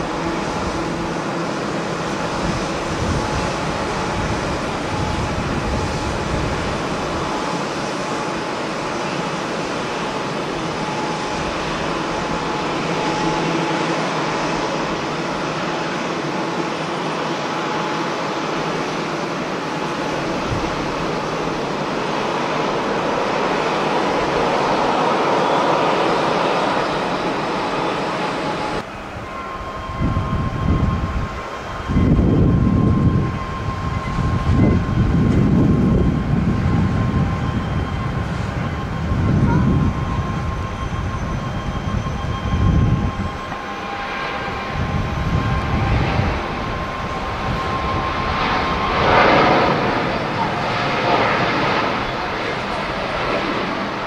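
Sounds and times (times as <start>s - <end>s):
wind buffeting microphone: 0.0s - 16.1s, 18.2s - 54.0s
jet engines running: 0.0s - 54.0s.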